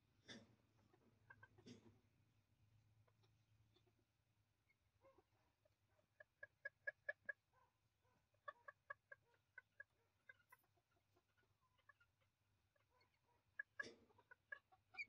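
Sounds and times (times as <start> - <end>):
chickens clucking: 0.2 - 2.1, 3.0 - 15.0.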